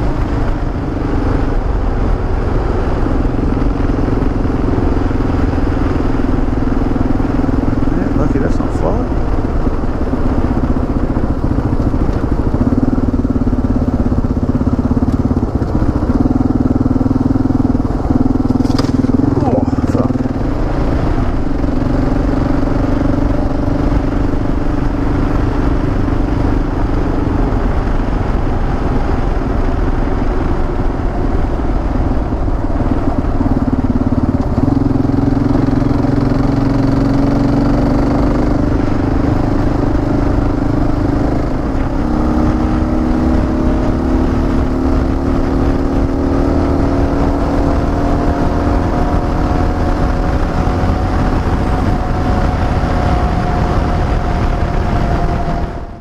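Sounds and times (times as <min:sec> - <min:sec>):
motorcycle engine running: 0:00.0 - 0:56.0
road rumble on gravel: 0:00.0 - 0:56.0
wind noise: 0:00.0 - 0:56.0.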